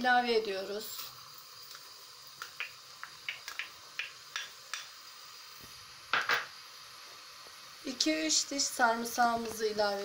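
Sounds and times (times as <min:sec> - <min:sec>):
oil crackles and pops: 0:00.0 - 0:10.0
onion sizzling in oil: 0:00.0 - 0:10.0.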